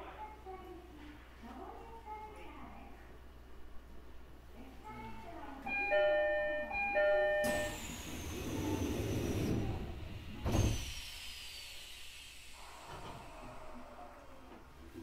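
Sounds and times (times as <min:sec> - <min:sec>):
train hiss and low rumble: 0:01.6 - 0:14.5.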